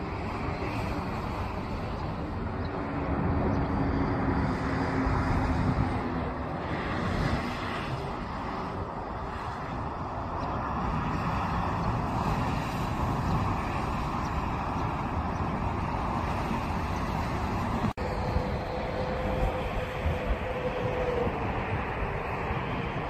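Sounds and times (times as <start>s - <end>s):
distant jet engine whine: 0.0s - 23.0s
jet airliner engines rumbling: 0.0s - 23.0s.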